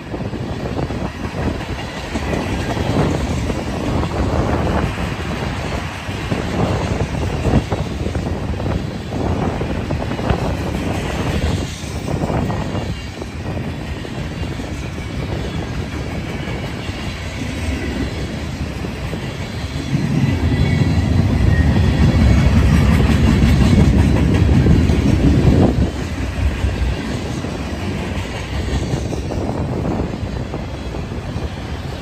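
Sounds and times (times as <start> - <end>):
freight train wheels rumbling on rails: 0.0 - 32.0.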